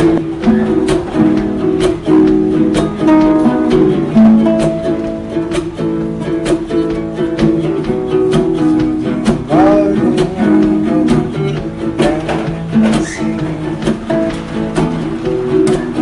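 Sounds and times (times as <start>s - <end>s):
plucked-string melody over beat: 0.0s - 16.0s.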